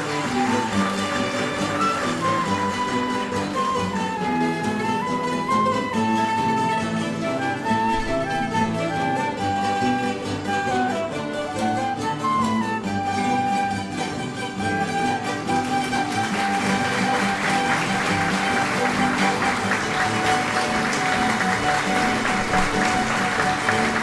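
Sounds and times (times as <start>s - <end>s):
audience applause: 0.0s - 24.0s
string band playing lively tune: 0.0s - 24.0s.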